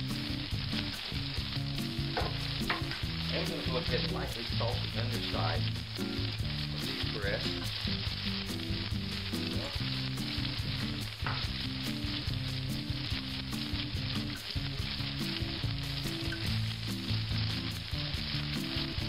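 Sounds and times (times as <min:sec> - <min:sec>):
chicken sizzling in a skillet: 0:00.0 - 0:19.0.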